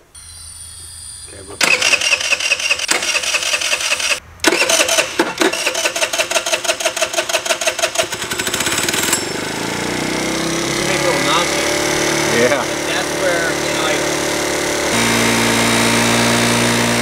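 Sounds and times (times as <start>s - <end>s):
small scooter engine revving: 0.2s - 17.0s.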